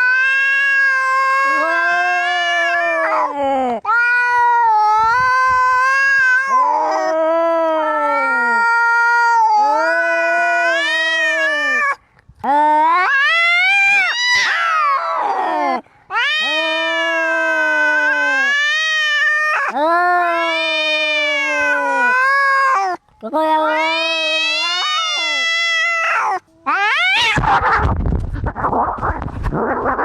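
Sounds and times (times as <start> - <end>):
cat yowling: 0.0 - 12.0, 12.8 - 27.9.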